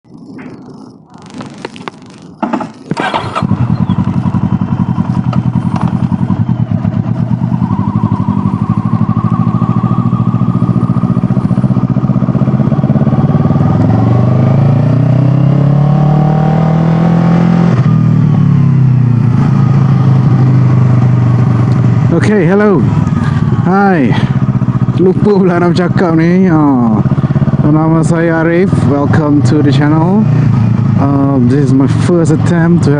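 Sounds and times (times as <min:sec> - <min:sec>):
motorcycle engine starting and revving: 0:00.2 - 0:32.9.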